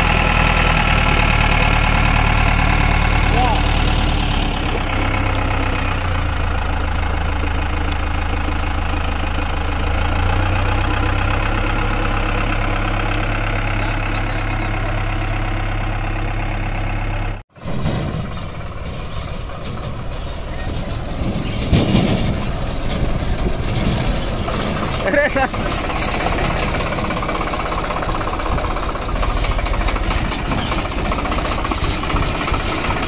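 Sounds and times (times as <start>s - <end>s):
diesel engine running: 0.0s - 33.0s
tractor diesel engine running: 0.0s - 33.0s.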